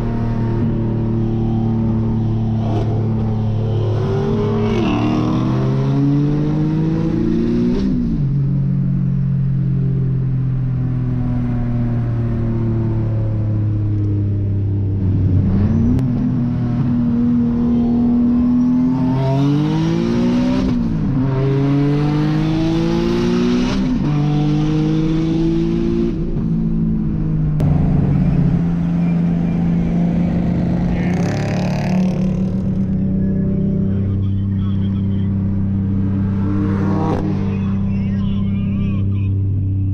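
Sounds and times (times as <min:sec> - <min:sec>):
car engine accelerating inside cabin: 0:00.0 - 0:37.7.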